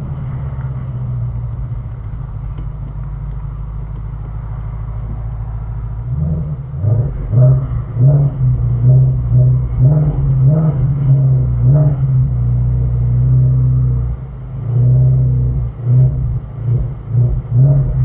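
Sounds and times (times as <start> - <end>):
car engine idling: 0.0 - 18.0
engine throttle blips: 0.0 - 18.0.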